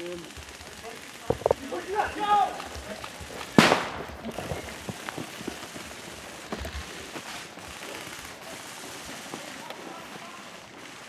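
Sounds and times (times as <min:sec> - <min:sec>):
faint sharp clicks and thumps: 0:00.0 - 0:11.0
footsteps running on grass: 0:00.0 - 0:11.0.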